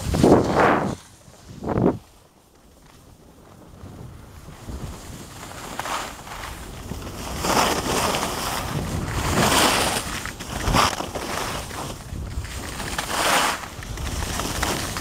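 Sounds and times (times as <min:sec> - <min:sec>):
wind buffeting microphone: 0:00.0 - 0:02.1, 0:03.2 - 0:15.0
skis scraping over snow: 0:00.0 - 0:15.0.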